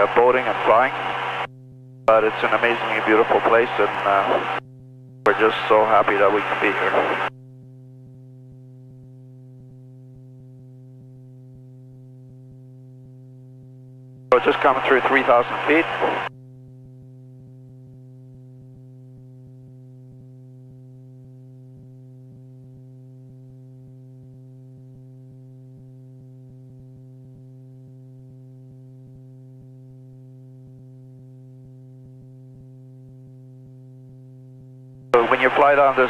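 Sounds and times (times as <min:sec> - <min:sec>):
steady electrical hum: 0:00.0 - 0:26.9, 0:32.4 - 0:36.0.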